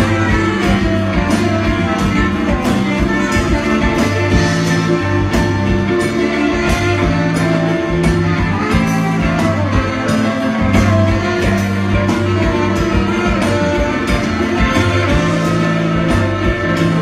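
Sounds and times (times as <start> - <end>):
bass line: 0.0 - 17.0
electric guitars: 0.0 - 17.0
saxophones: 0.0 - 17.0.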